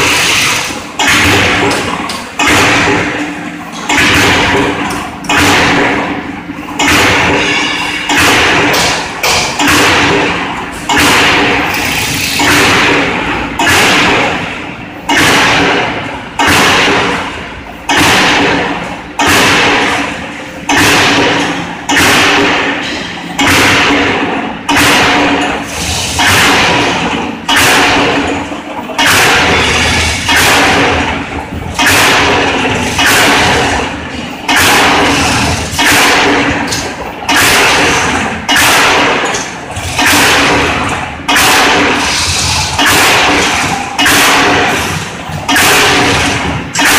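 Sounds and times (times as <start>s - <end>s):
punching machine strokes on steel: 0.0s - 46.9s
steady machine hum: 0.0s - 46.9s.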